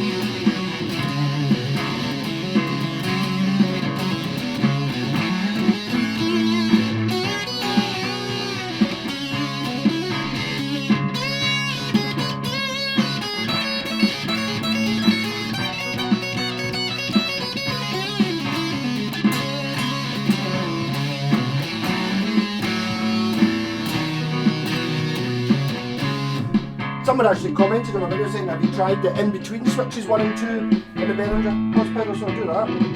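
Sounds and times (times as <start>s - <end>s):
fuzzed electric guitar: 0.0s - 32.9s.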